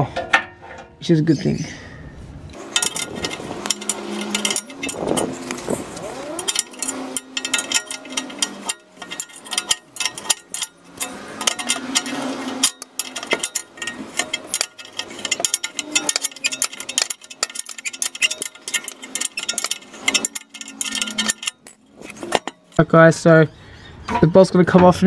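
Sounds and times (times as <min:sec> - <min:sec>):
ratchet spanner clicking: 0:02.6 - 0:22.8
small metal clinks: 0:02.6 - 0:22.8.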